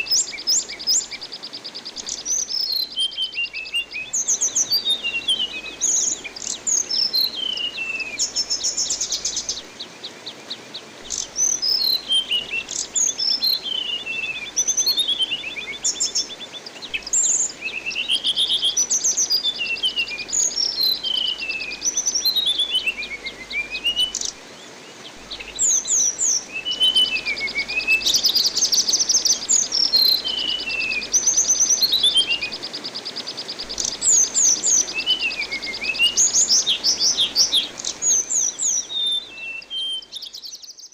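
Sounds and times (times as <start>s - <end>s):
running water hiss: 0.0s - 40.9s.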